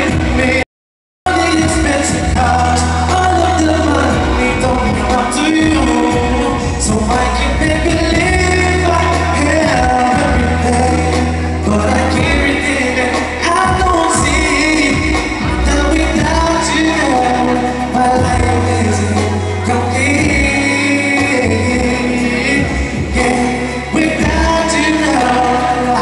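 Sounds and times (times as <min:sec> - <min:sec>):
instrumental backing track: 0:00.0 - 0:00.6, 0:01.3 - 0:26.0
man singing into microphone: 0:00.0 - 0:00.6, 0:01.3 - 0:26.0.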